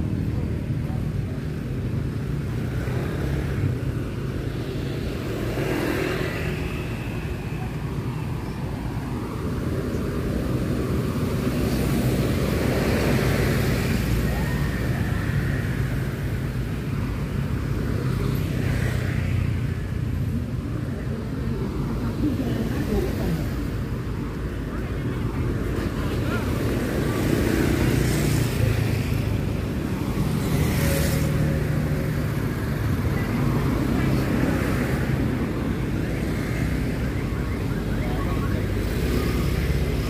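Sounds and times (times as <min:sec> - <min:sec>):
low rumble of traffic: 0:00.0 - 0:40.0
vehicles passing close by: 0:00.0 - 0:40.0.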